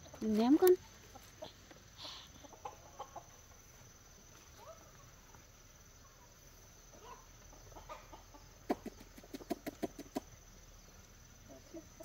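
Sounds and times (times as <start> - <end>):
chickens clucking: 0.0 - 10.5, 11.3 - 12.0.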